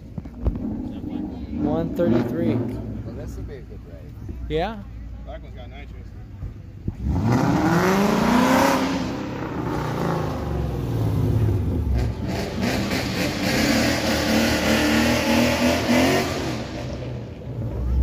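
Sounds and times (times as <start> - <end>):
car engine revving: 0.1 - 3.8, 6.8 - 18.0.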